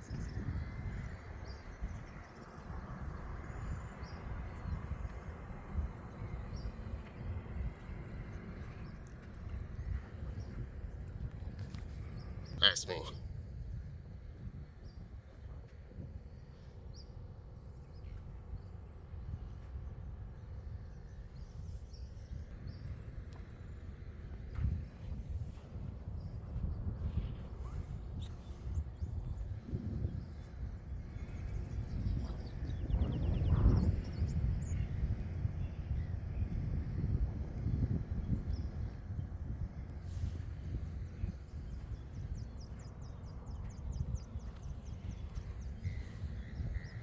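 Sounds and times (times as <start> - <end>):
wind rumble on microphone: 0.0 - 47.0.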